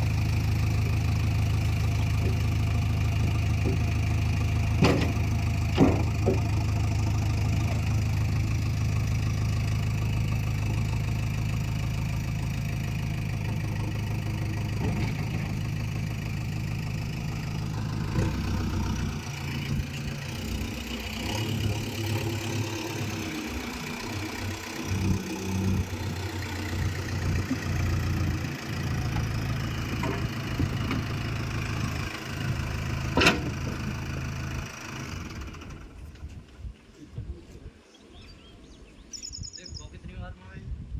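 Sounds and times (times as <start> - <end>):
heavy machinery diesel engine: 0.0 - 36.6.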